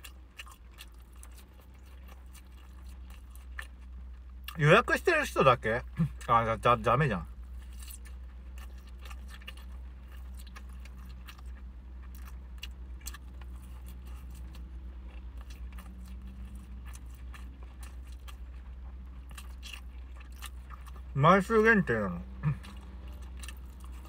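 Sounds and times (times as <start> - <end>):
person chewing: 0.0 - 4.6, 7.2 - 24.0
low car interior hum: 0.0 - 24.0.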